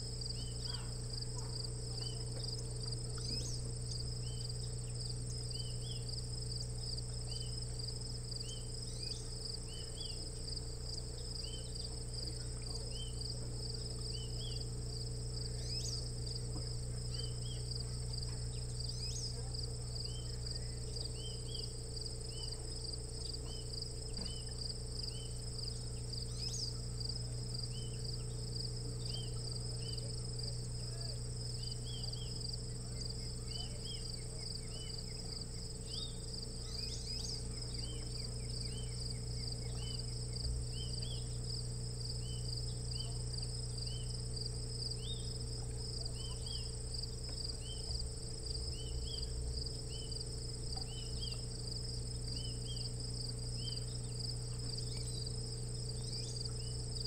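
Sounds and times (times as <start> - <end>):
constant low hum: 0.0 - 57.0
crickets trilling: 0.0 - 57.0.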